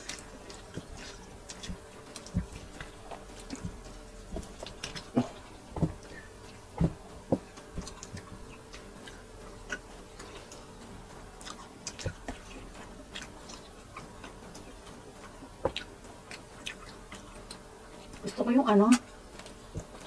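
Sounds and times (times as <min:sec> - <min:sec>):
chewing and wet smacks: 0:00.0 - 0:20.0.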